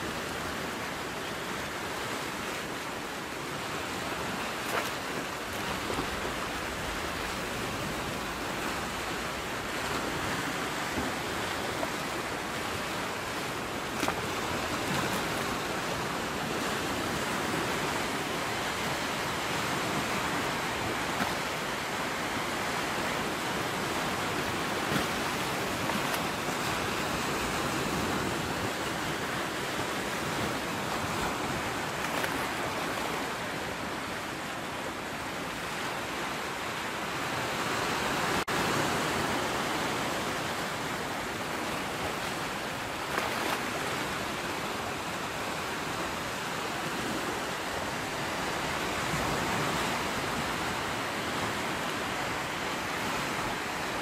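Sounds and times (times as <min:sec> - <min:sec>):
sea surf washing: 0:00.0 - 0:54.0.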